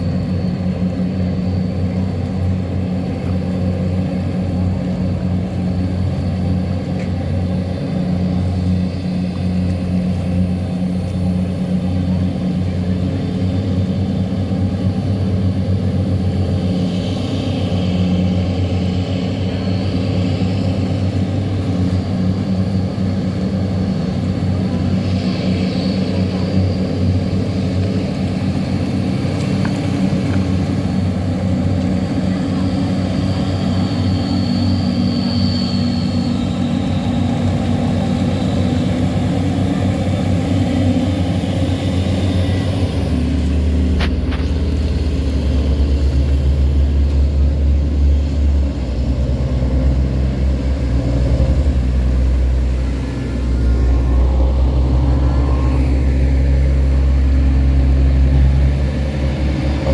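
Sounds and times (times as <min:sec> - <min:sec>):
tugboat diesel engine running: 0:00.0 - 0:59.9.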